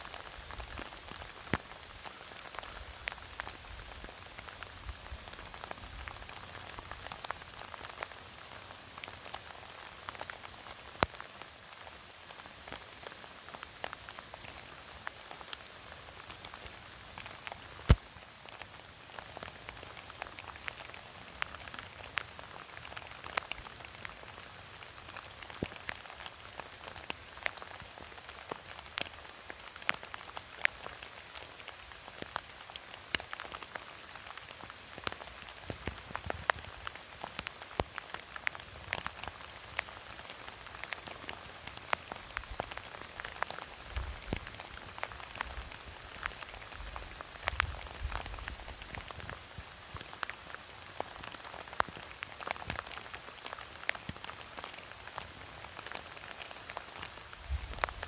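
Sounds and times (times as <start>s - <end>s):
rain dripping on branches and leaves: 0.0s - 58.0s.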